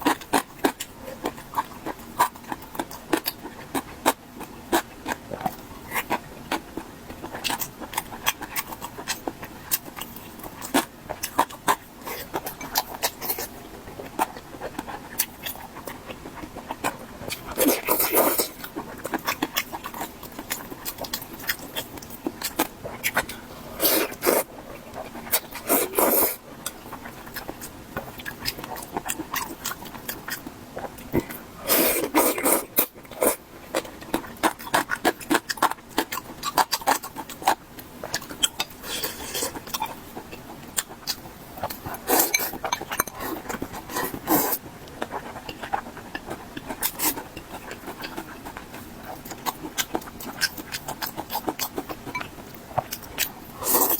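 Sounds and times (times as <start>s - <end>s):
wet chewing and mouth clicks: 0.0s - 53.9s.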